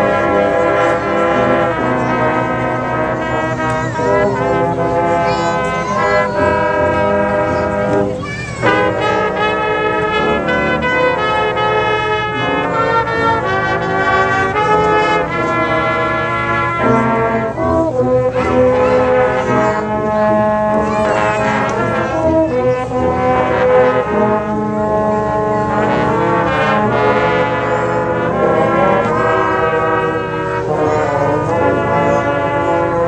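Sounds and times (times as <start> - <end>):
brass band playing: 0.0 - 33.0.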